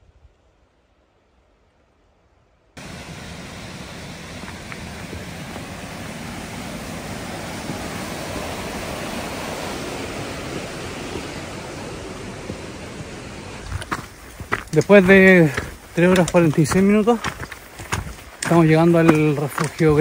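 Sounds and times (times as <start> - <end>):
steady outdoor rushing noise: 2.8 - 20.0.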